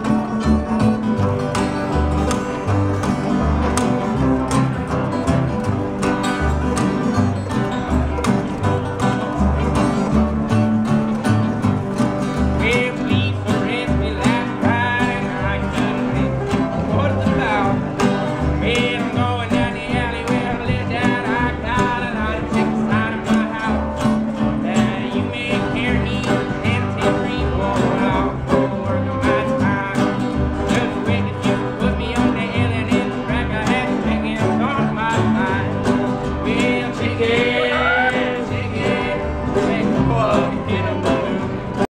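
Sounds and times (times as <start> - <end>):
acoustic string band playing: 0.0 - 41.9.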